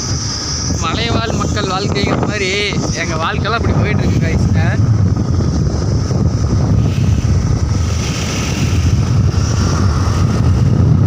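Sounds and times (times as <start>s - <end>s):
motorbike engine and road noise: 0.0s - 11.0s
wind rushing over microphone: 0.0s - 11.0s.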